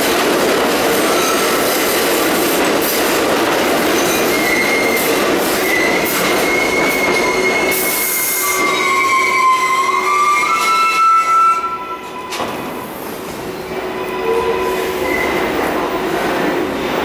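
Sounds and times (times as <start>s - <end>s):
train running noise: 0.0s - 17.0s
subway train brakes squealing: 1.0s - 2.0s, 3.9s - 16.9s.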